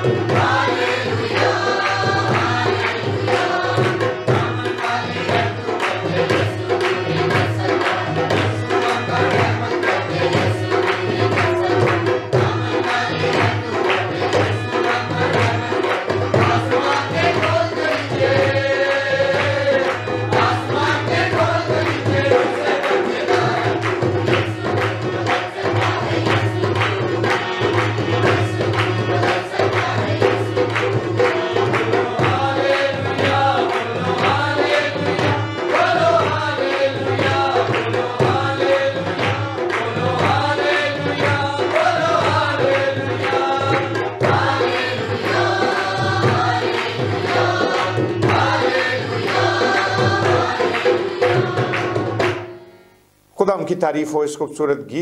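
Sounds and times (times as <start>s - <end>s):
choir singing a hymn: 0.0s - 52.4s
tabla and hand drum: 0.0s - 53.3s
harmonium: 0.0s - 53.7s.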